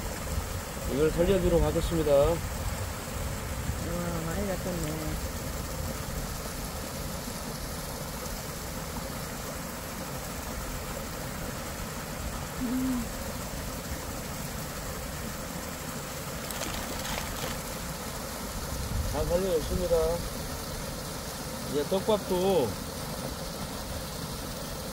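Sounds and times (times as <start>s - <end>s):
hose water gushing into stream: 0.0s - 24.9s.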